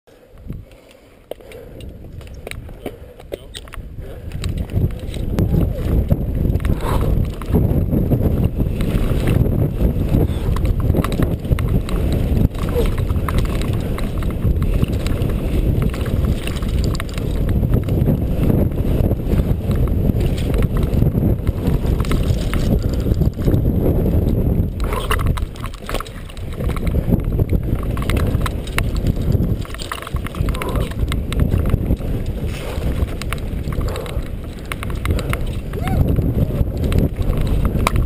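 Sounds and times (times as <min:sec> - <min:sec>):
wind buffeting microphone: 0:00.2 - 0:38.0
bike rattling over bumps: 0:00.5 - 0:38.0
tyres rumbling over dirt: 0:04.3 - 0:38.0.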